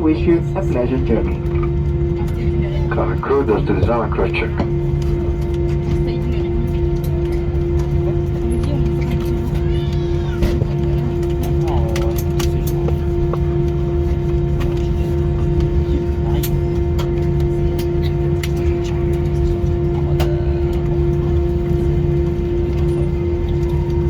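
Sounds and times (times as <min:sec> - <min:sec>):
aircraft cabin mechanical hum: 0:00.0 - 0:24.0
passengers moving clicks and knocks: 0:00.0 - 0:24.0.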